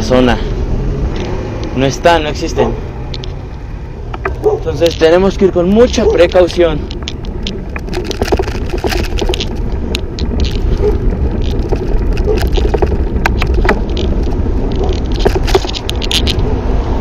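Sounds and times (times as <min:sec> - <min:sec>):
wind rushing over microphone: 0:00.5 - 0:17.0
bicycle clicks and rattles: 0:02.5 - 0:16.6.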